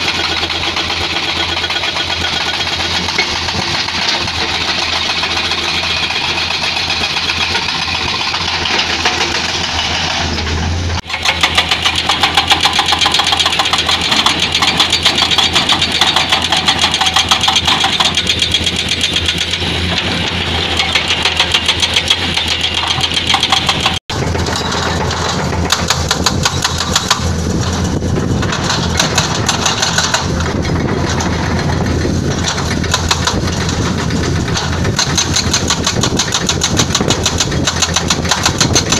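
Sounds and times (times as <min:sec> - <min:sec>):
diesel engine running: 0:00.0 - 0:38.9
hydraulic breaker hammering rock: 0:00.0 - 0:38.9.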